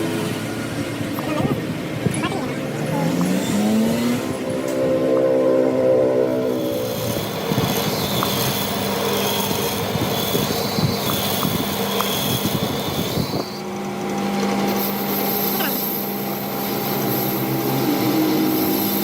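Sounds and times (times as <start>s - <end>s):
machine humming with high tone: 1.8s - 19.0s.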